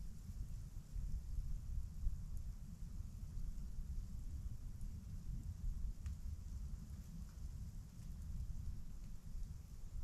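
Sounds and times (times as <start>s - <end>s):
gusting wind rumble: 0.0s - 10.0s.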